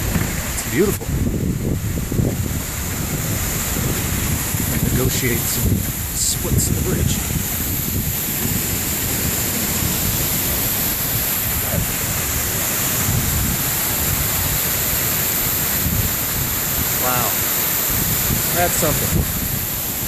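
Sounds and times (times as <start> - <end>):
waterfall roaring: 0.0 - 20.0
wind buffeting microphone: 0.0 - 20.0.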